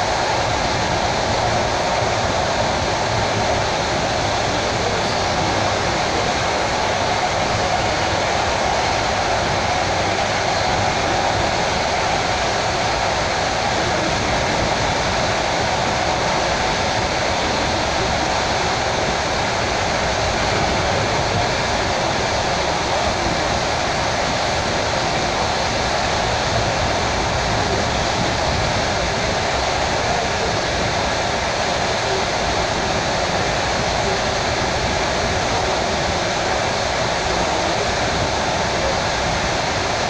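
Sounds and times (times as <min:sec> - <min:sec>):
train running noise inside carriage: 0:00.0 - 0:40.0.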